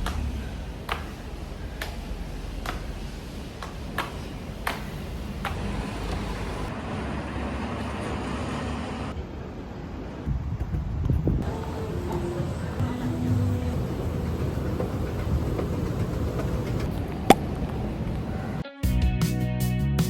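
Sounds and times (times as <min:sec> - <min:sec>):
road traffic rumbling: 0:00.0 - 0:10.2, 0:11.3 - 0:18.6.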